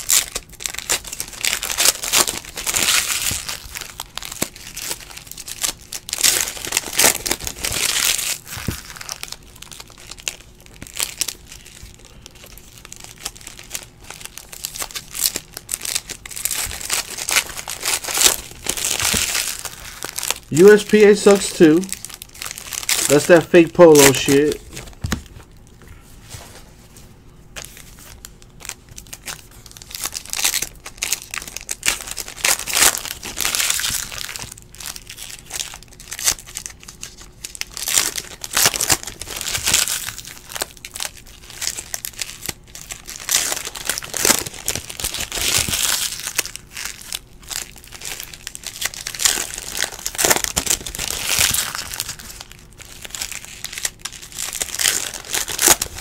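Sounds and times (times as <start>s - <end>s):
foil wrappers crinkling and tearing: 0.0s - 25.7s, 27.5s - 56.0s.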